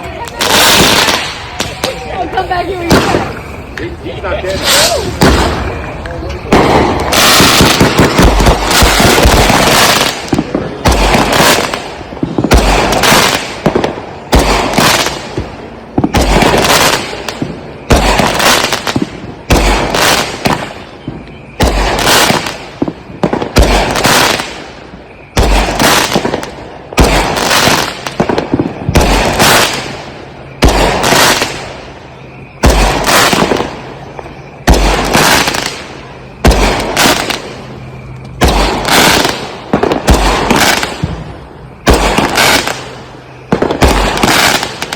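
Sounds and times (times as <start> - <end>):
fireworks booming: 0.0 - 44.9.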